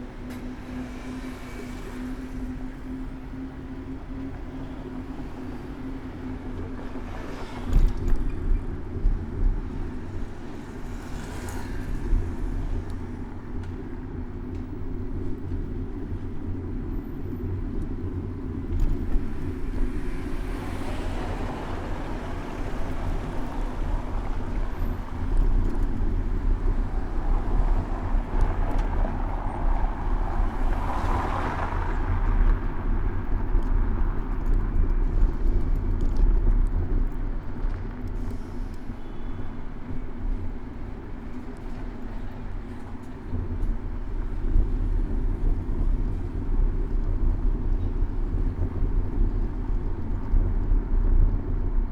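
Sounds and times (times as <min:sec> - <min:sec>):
city traffic rumble: 0:00.0 - 0:51.9
vehicles passing: 0:00.0 - 0:51.9.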